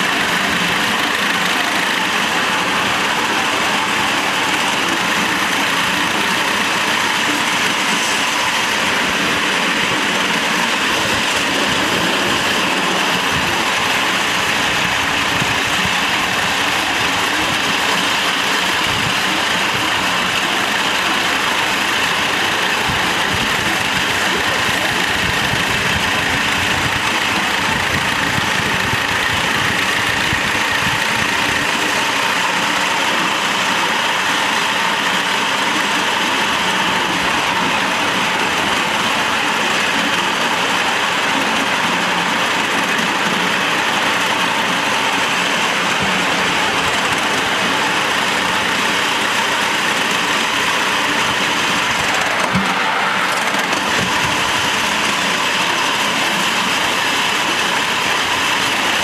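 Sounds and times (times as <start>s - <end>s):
miniature train running on track: 0.0s - 59.0s.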